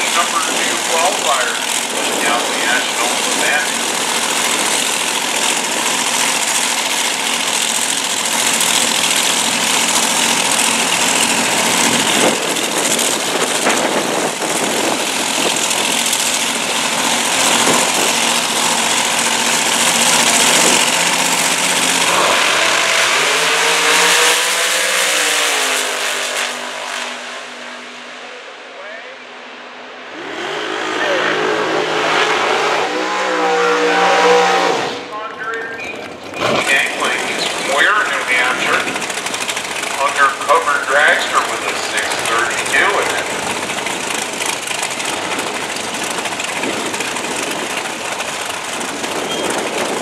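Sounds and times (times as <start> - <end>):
dragster engines running loud: 0.0 - 50.0.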